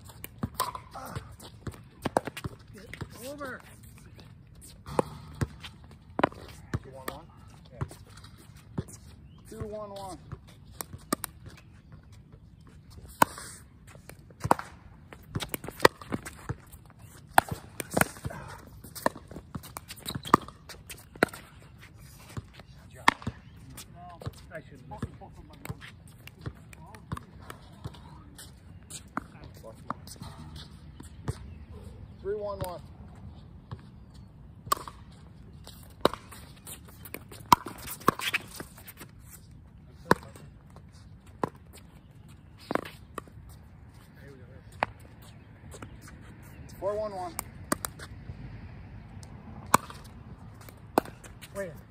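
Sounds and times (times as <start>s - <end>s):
shoes scuffing on court: 0.0s - 31.9s, 35.0s - 48.3s.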